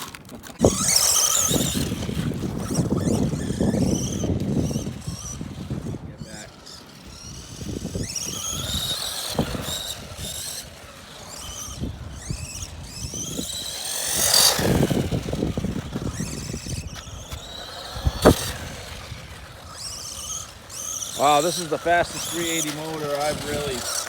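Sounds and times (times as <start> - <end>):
electric motor whining: 0.0 - 24.0
tyres on rough ground: 0.0 - 24.0.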